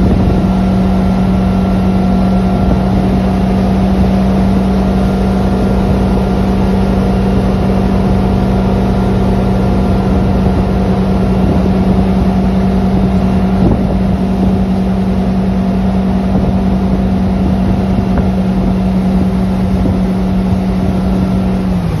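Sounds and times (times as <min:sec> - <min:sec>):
boat engine running at high speed: 0:00.0 - 0:22.0
water rushing past hull: 0:00.0 - 0:22.0.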